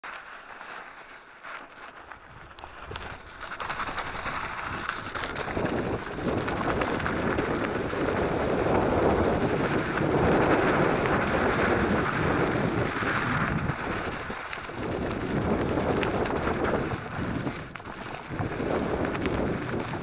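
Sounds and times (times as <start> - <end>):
bike tyres rolling on gravel: 0.0 - 20.0
wind rushing over microphone: 2.2 - 20.0.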